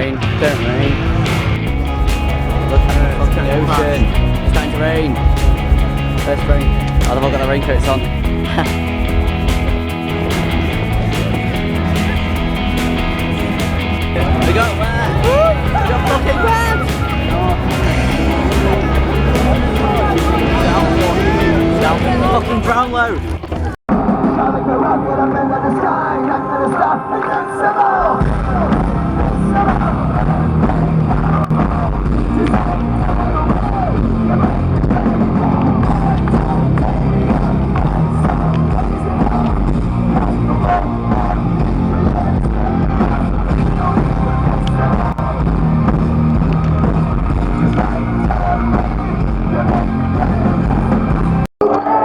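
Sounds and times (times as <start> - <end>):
loud rock music with heavy bass: 0.0 - 25.0, 27.7 - 51.4
crowd noise: 0.0 - 52.0.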